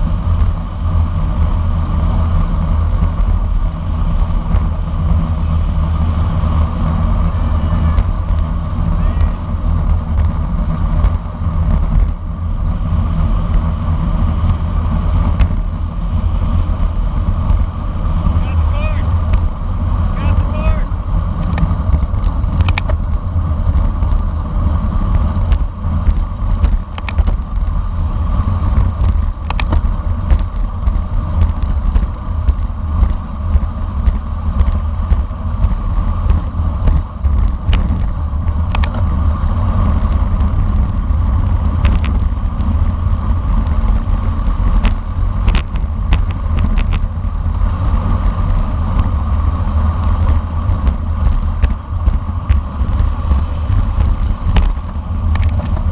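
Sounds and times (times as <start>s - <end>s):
bicycle clicks and rattles: 0.0s - 18.4s, 21.1s - 55.9s
road rumble: 0.0s - 55.9s
wind buffeting microphone: 0.0s - 55.9s.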